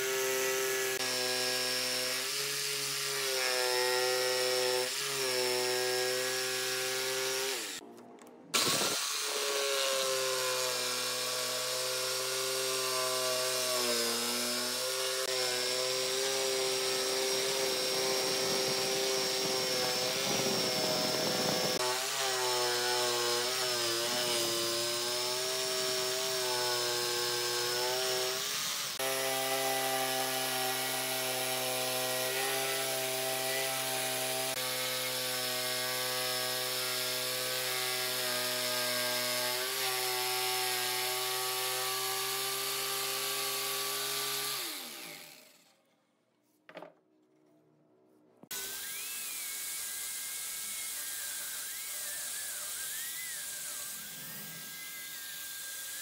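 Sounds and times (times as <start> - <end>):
jigsaw cutting wood: 0.0 - 7.8, 8.6 - 45.8, 48.5 - 56.0.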